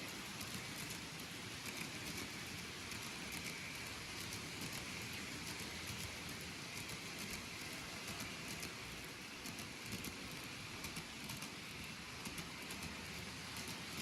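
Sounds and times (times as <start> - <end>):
model train rattling on track: 0.0 - 14.0.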